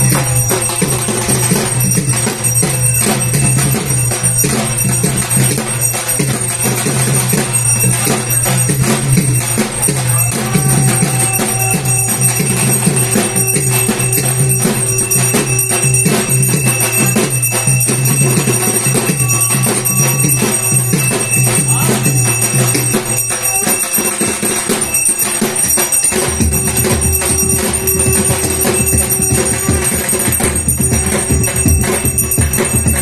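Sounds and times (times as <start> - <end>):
drums beaten in fast rhythm: 0.0 - 33.0
metallic jingling: 0.0 - 33.0.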